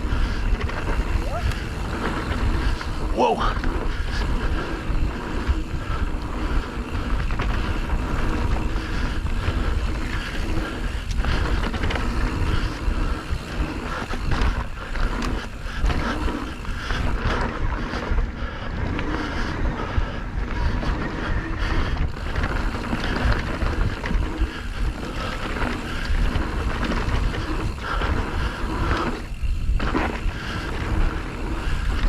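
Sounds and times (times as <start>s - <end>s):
bike knocking and rattling: 0.0s - 32.0s
wind buffeting microphone: 0.0s - 32.0s.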